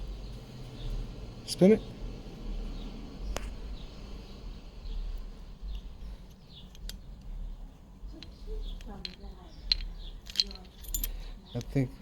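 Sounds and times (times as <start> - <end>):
bearing rough rolling: 0.0 - 11.8.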